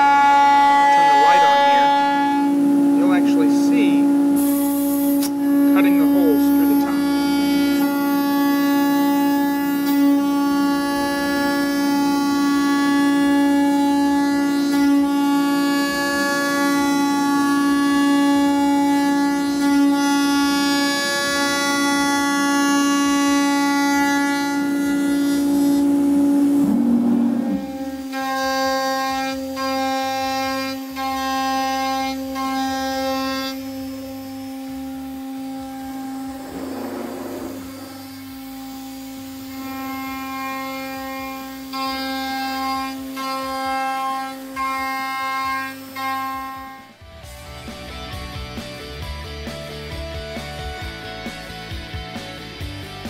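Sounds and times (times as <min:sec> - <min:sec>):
cnc router spindle whine: 0:00.0 - 0:47.1.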